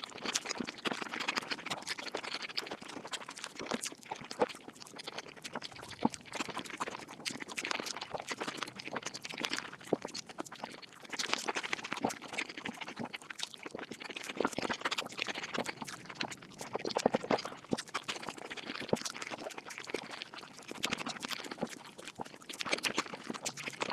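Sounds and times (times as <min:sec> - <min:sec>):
sped-up chewing clicks and smacks: 0:00.0 - 0:23.9.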